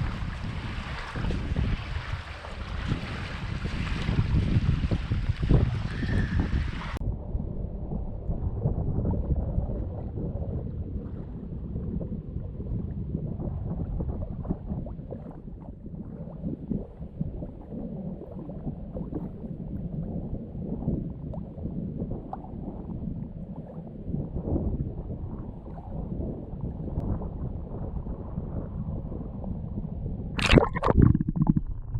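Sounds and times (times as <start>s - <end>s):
choppy water lapping: 0.0s - 7.0s, 8.0s - 31.9s
wind buffeting microphone: 0.0s - 23.0s, 23.6s - 31.9s.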